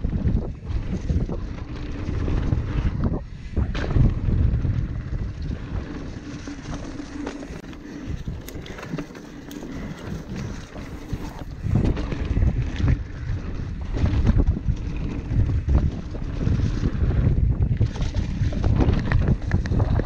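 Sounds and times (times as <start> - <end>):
bike knocks and rattles: 0.0 - 20.0
low rumble of bike tyres: 0.0 - 20.0
wind rushing over microphone: 0.0 - 20.0.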